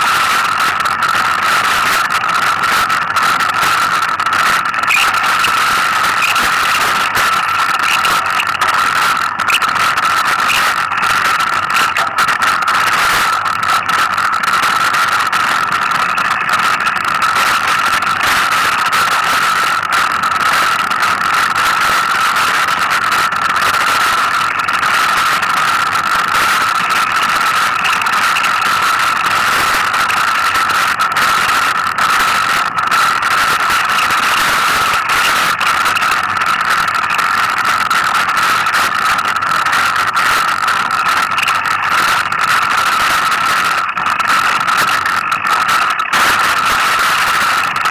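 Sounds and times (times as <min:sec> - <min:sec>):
steady high-pitched whine: 0:00.0 - 0:47.9.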